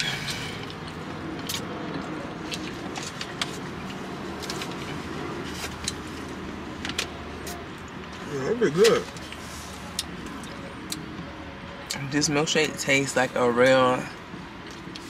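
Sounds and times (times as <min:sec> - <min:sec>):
low hum in car cabin: 0:00.0 - 0:15.0.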